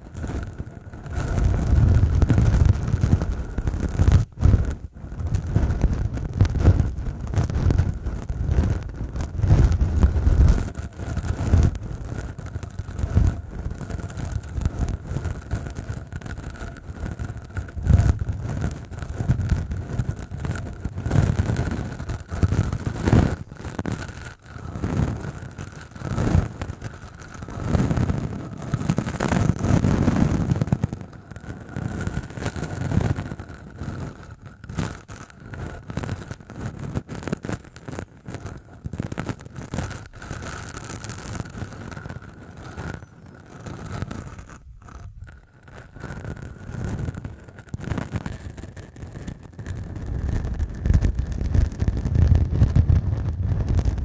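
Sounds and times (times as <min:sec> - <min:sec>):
stubble scraping on microphone: 0:00.0 - 0:54.0.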